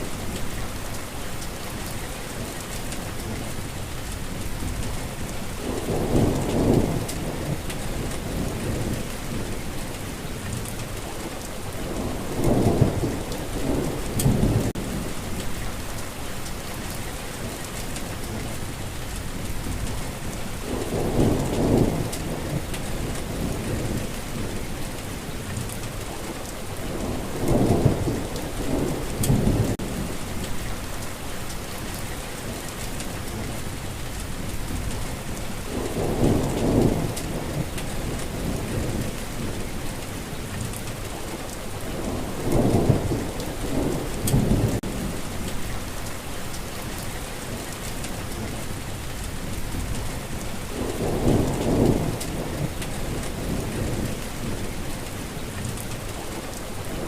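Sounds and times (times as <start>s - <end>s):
steady rain falling: 0.0s - 57.0s
thunder rumbling: 3.0s - 16.0s, 17.7s - 57.0s.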